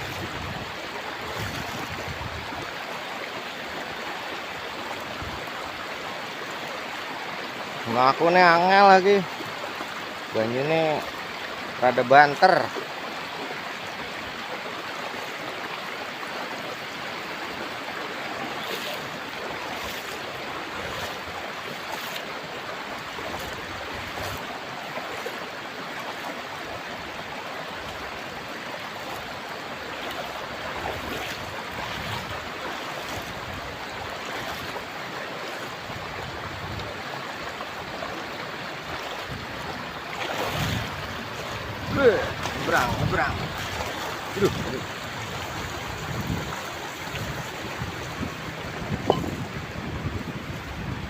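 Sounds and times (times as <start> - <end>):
river rushing over rocks: 0.0 - 51.0.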